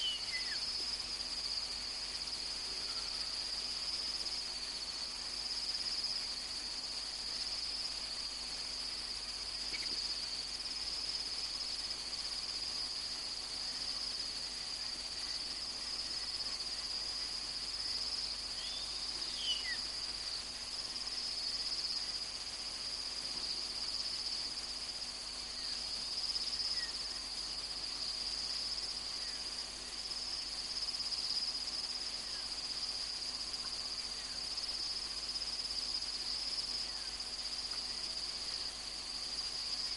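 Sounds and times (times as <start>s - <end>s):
crickets chorus: 0.0s - 39.9s.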